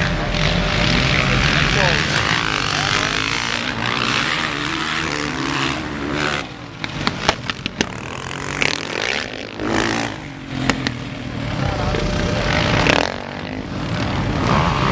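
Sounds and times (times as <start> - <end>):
motorcycle engines revving: 0.0 - 14.9.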